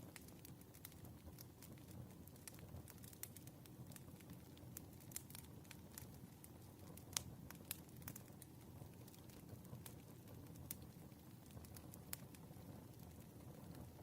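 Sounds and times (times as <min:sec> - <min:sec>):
faint crackling wood fire: 0:00.0 - 0:14.0.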